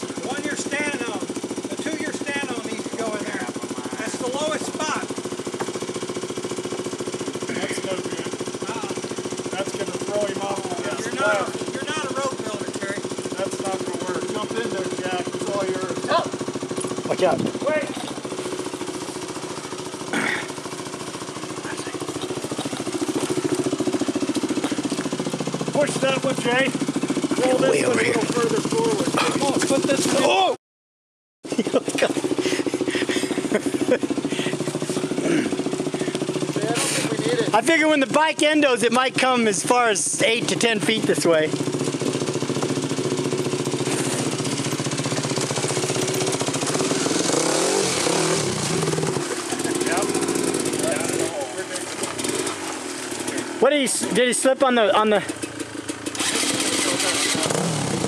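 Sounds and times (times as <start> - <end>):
dirt bike engine running: 0.0 - 30.6, 31.4 - 58.0.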